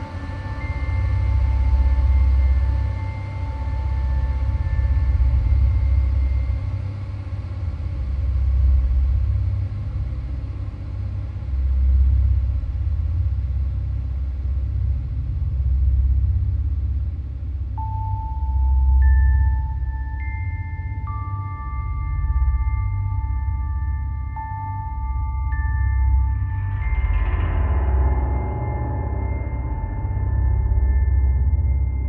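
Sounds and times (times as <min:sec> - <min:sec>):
deep rumbling drone: 0:00.0 - 0:32.0.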